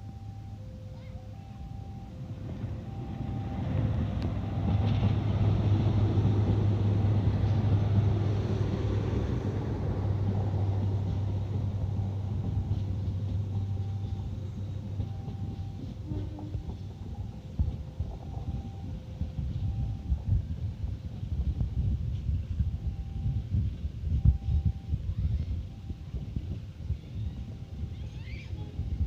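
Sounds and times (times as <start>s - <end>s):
diesel locomotive engine droning: 0.0s - 29.0s
moving train rumbling: 0.0s - 29.0s.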